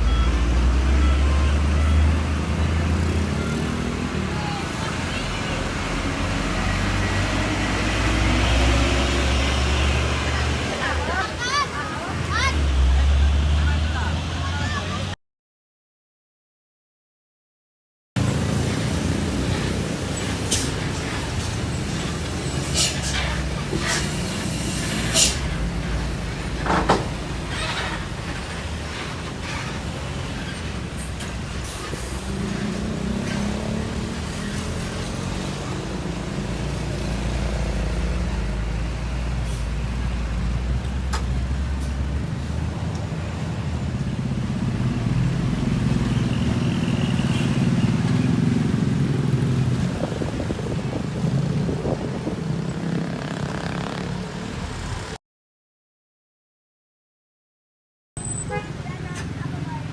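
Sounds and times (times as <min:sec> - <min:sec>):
heavy trucks passing: 0:00.0 - 0:15.2, 0:18.2 - 0:55.2.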